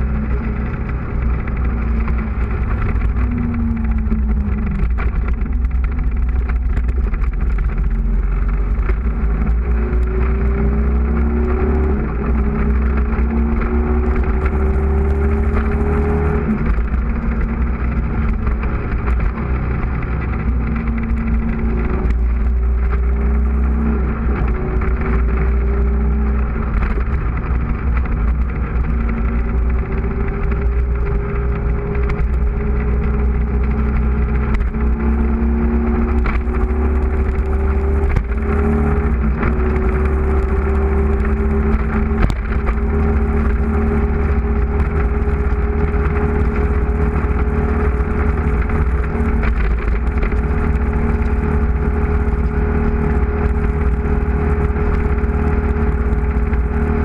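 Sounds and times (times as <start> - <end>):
motorcycle engine accelerating: 0.0 - 57.0
wind rushing on microphone: 0.0 - 57.0.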